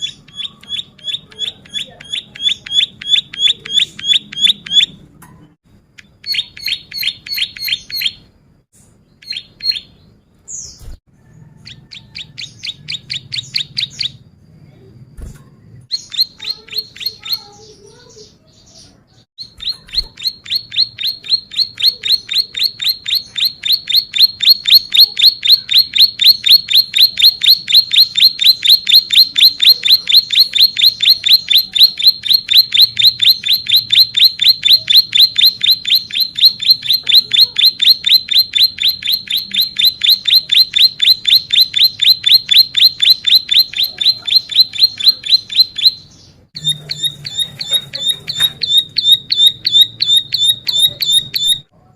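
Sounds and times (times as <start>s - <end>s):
bird singing rapid repeated notes: 0.0s - 5.1s, 5.7s - 11.0s, 11.6s - 51.7s.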